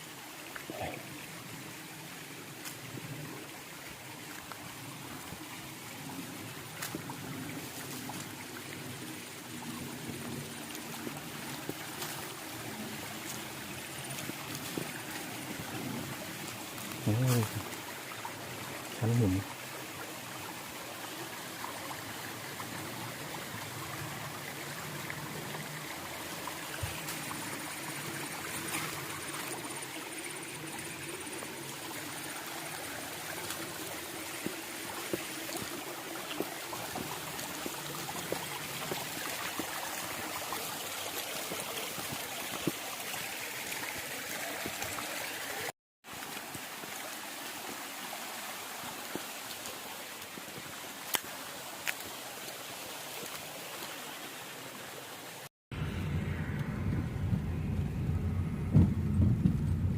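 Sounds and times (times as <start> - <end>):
stream rushing over rock: 0.0 - 55.5.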